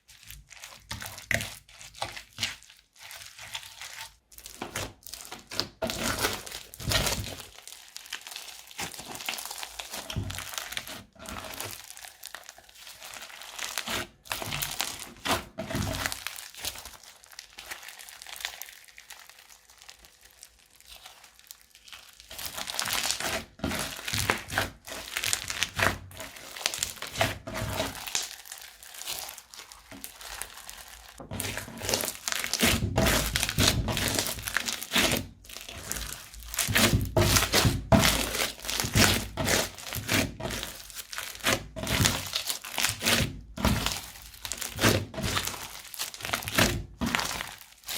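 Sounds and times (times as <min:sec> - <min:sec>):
crunchy slime crackling: 0:00.0 - 0:47.9.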